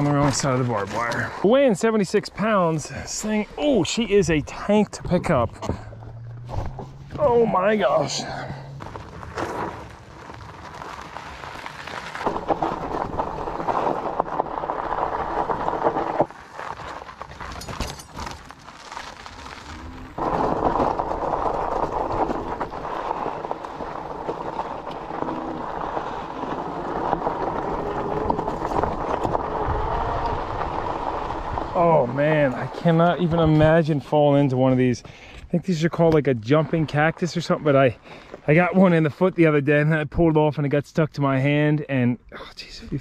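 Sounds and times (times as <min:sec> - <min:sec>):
bike tires rushing on gravel: 0:00.0 - 0:39.8.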